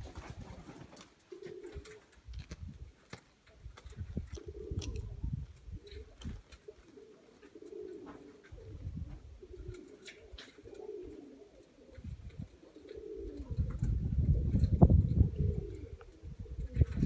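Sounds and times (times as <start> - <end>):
pigeons cooing: 0.0 - 2.2, 4.0 - 17.0.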